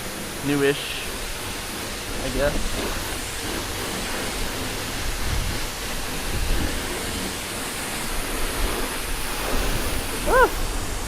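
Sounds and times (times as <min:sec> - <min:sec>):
pressure washer water spray hiss: 0:00.0 - 0:11.0.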